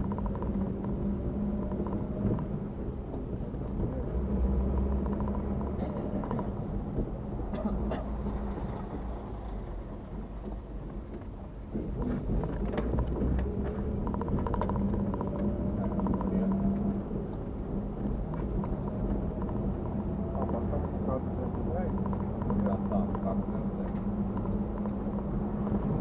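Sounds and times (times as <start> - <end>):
car engine hum: 0.0 - 26.0
road rumble: 0.0 - 26.0.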